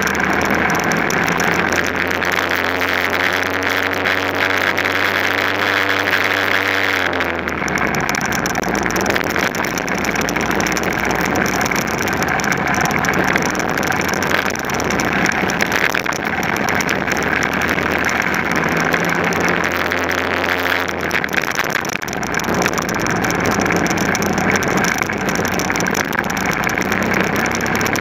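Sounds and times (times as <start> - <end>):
kart engine running: 0.0 - 28.0
wind and road noise: 0.0 - 28.0.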